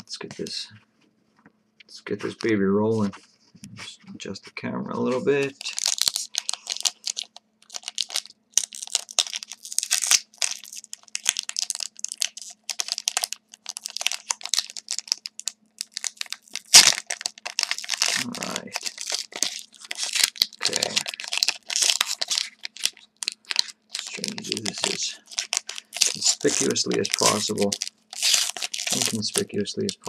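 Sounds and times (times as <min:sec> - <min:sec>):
wrapper crinkling and tearing: 0:05.3 - 0:30.0.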